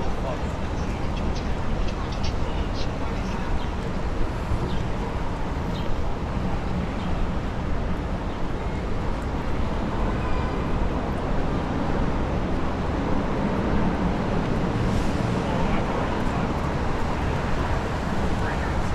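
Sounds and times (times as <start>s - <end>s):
city vehicle rumble: 0.0s - 18.9s.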